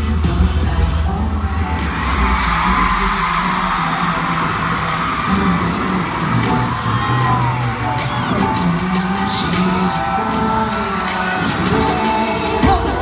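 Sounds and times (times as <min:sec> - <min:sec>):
fans screaming and cheering: 0:00.0 - 0:13.0
live pop music over loudspeakers: 0:00.0 - 0:13.0.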